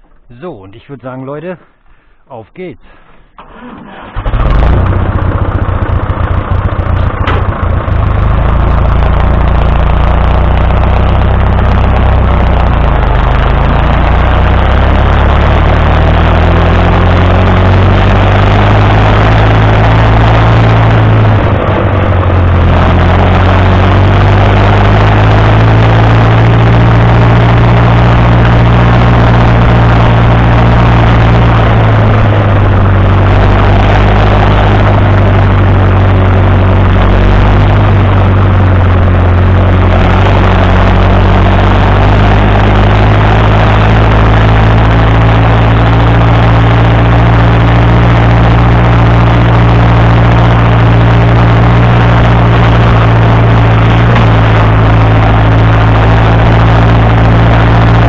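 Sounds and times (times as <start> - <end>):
tractor diesel engine running: 2.9 - 58.0.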